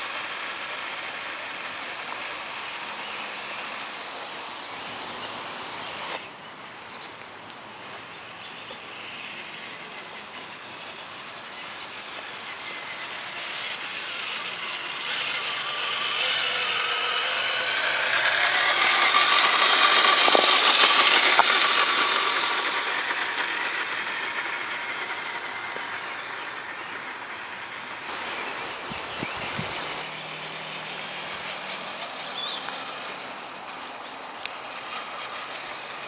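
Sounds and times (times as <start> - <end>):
toy truck electric motor whining: 0.0 - 6.2, 8.2 - 36.0.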